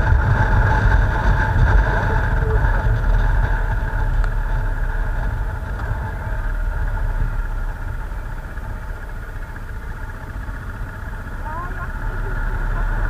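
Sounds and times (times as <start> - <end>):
motorcycle engine running: 0.0 - 13.0
wind rumble: 0.0 - 13.0.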